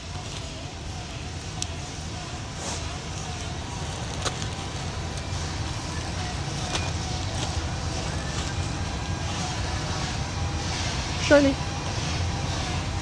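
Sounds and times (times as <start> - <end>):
low shop rumble: 0.0 - 13.0.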